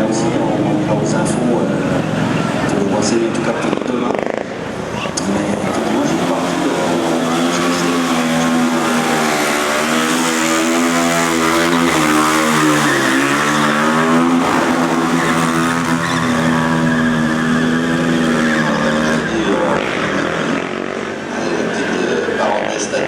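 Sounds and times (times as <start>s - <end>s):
racing motorcycle engine at high revs: 0.0s - 23.0s.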